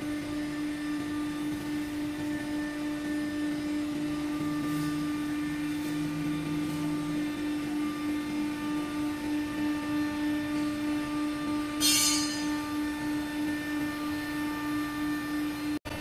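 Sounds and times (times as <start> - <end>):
electric hydraulic pump hum: 0.0 - 16.0.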